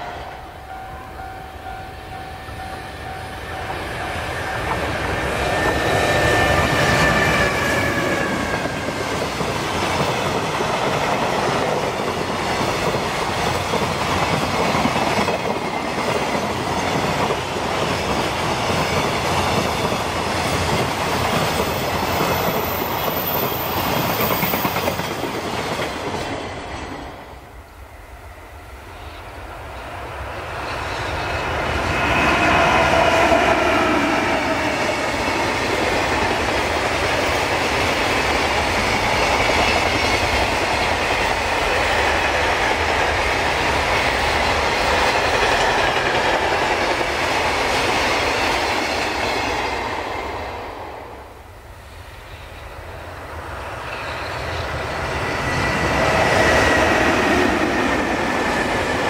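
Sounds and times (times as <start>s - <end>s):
faint high train whine: 0.0s - 59.0s
freight train approaching: 0.0s - 59.0s.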